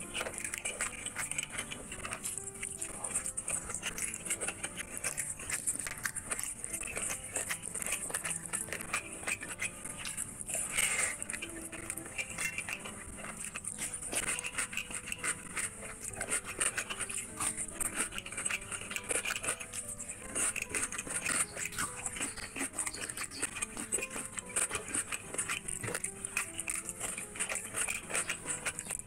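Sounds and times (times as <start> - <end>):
fingers squelching rice: 0.0 - 29.0
wet chewing and lip smacking: 0.0 - 29.0.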